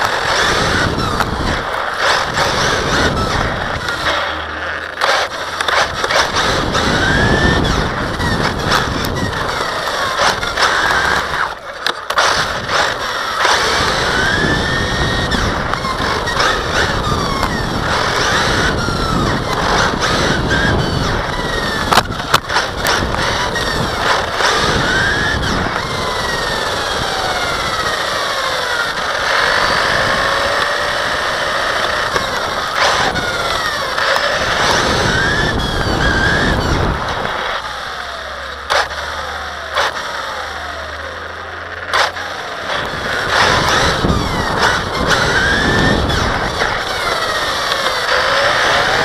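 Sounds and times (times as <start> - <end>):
rc car motor whining: 0.0 - 49.0
tyre noise on asphalt: 0.0 - 49.0.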